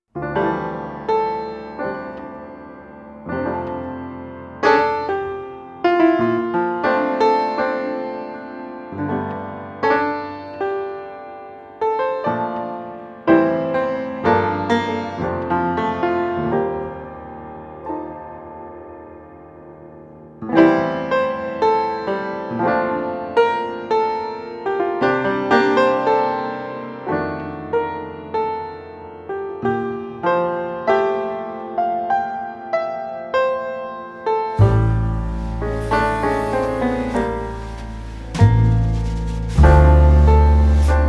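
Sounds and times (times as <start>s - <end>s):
slow piano music: 0.2s - 41.0s.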